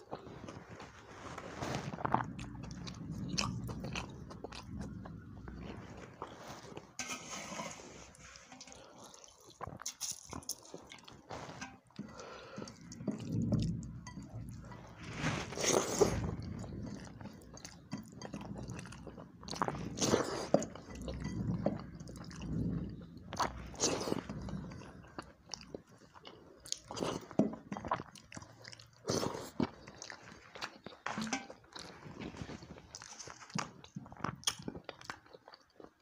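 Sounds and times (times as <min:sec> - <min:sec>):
person chewing food: 0:00.0 - 0:07.0, 0:08.0 - 0:36.0.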